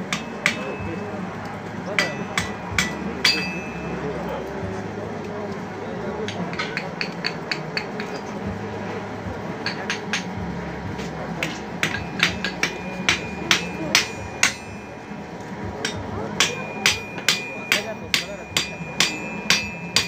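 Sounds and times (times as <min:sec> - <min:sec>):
hammer striking metal: 0:00.0 - 0:04.2, 0:06.2 - 0:08.4, 0:09.6 - 0:10.4, 0:11.0 - 0:20.0.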